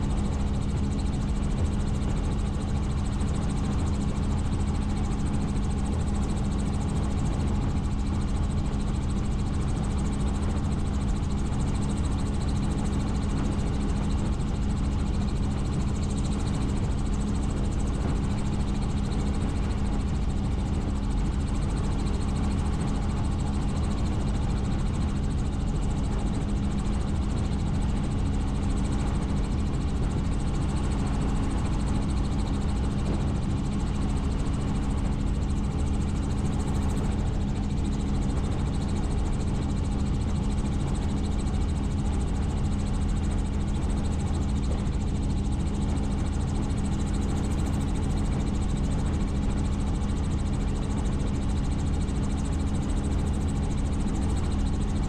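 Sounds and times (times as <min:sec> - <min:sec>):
helicopter in flight: 0:00.0 - 0:55.0.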